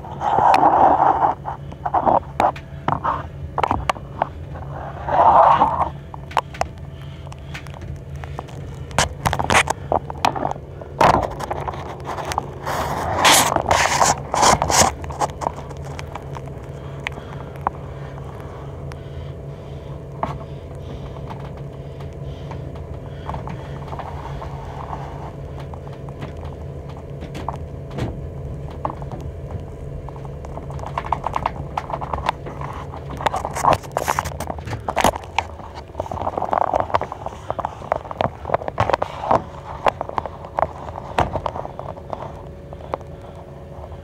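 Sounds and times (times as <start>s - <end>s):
machine hum: 0.0s - 44.0s
scraping and crackling: 0.0s - 44.0s.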